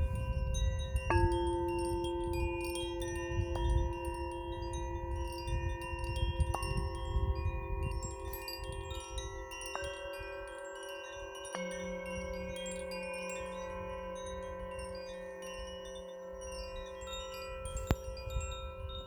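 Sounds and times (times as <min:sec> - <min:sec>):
metallic chimes ringing: 0:00.0 - 0:19.0.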